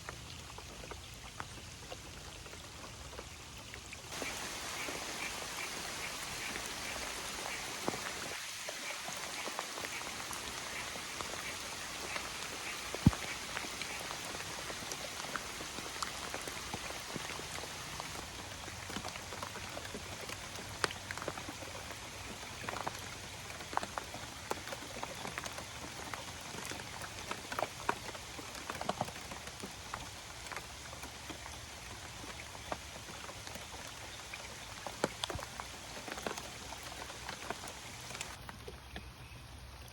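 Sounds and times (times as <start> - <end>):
water pattering and splashing: 0.0 - 39.9.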